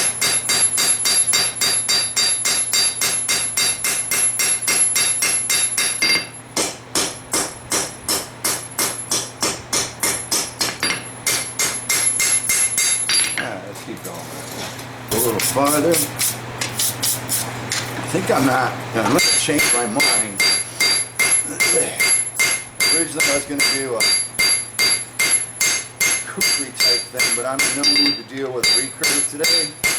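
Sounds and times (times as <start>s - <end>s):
hammer ringing on metal anvil: 0.0s - 13.5s, 19.2s - 29.9s.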